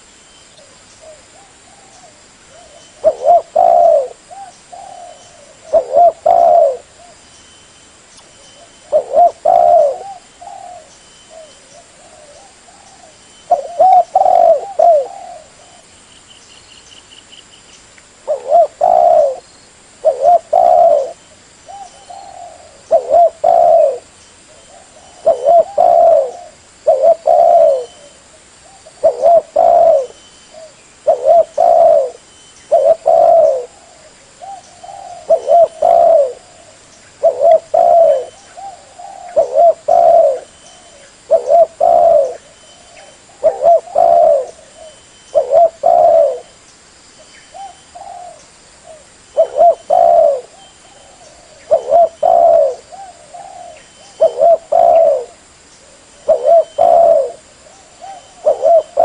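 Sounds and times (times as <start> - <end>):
dove cooing: 0.6 - 7.2, 8.6 - 15.9, 18.2 - 19.4, 20.0 - 46.6, 47.5 - 59.0.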